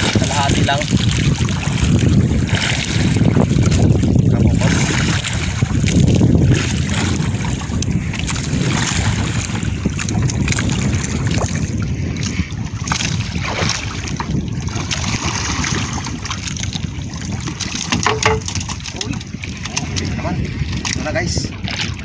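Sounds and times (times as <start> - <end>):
waves slapping boat: 0.0 - 22.0
wind buffeting microphone: 0.0 - 22.0.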